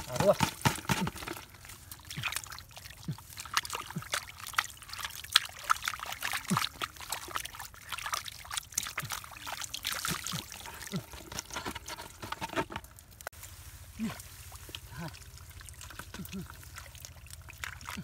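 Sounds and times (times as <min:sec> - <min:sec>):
mud squelching and splashing: 0:00.0 - 0:18.0.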